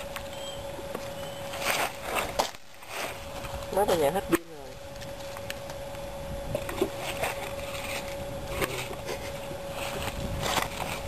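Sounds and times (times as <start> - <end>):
faint steady hum: 0.0 - 11.0
leaves and twigs rustling and snapping: 0.1 - 6.0, 6.6 - 11.0.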